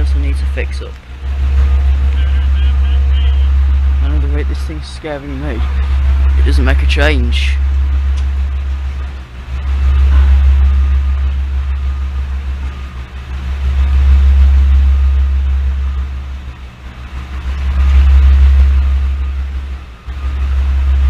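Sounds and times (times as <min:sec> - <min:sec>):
vehicles passing with low rumble: 0:00.0 - 0:21.0.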